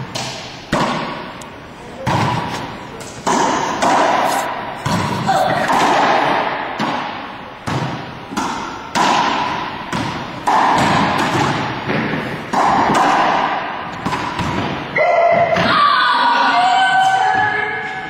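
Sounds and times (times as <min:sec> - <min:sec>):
racquetball hits echoing: 0:00.0 - 0:01.4, 0:02.0 - 0:15.9.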